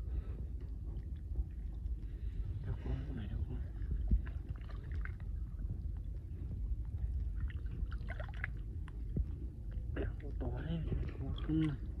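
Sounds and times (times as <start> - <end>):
muddy water sloshing and gurgling: 0.0 - 12.0
steady low rumble: 0.0 - 12.0.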